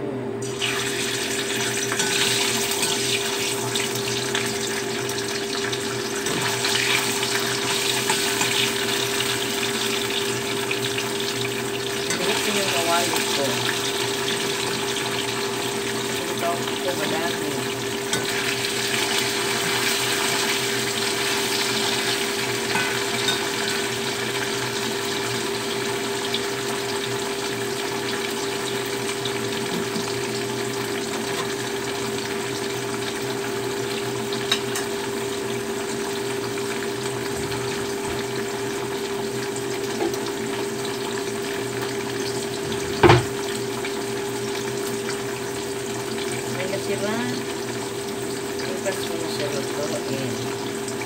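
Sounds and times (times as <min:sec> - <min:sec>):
tofu sizzling in hot oil: 0:00.4 - 0:51.0.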